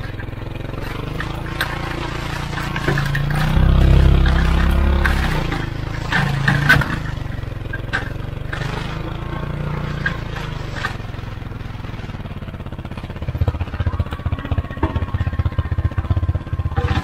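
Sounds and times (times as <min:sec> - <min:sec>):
utility vehicle engine under load: 0:00.0 - 0:17.0.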